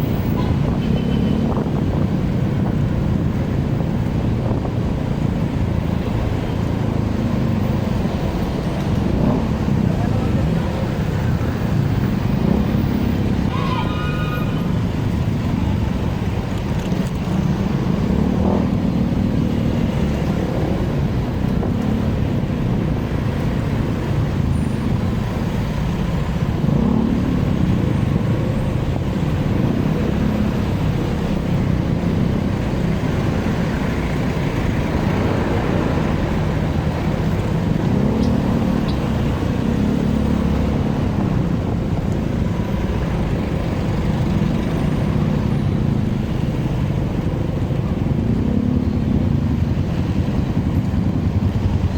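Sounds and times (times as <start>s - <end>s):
wind and road noise: 0.0s - 51.9s
motorcycle engine revving: 6.3s - 13.5s, 16.7s - 51.9s.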